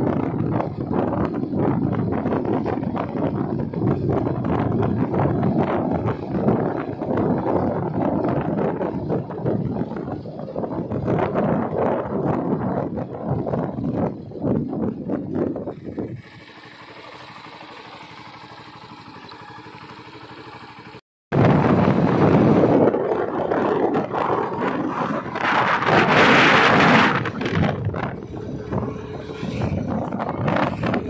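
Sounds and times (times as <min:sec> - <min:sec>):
wind rushing over microphone: 0:00.0 - 0:16.5, 0:21.3 - 0:31.0
motorcycle engine running: 0:00.0 - 0:31.0
road noise: 0:00.0 - 0:31.0.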